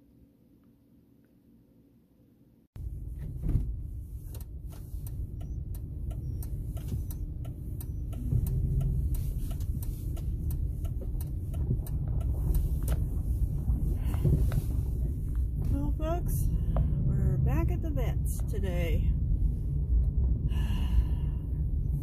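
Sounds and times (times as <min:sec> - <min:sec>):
road and engine rumble: 0:02.8 - 0:22.0.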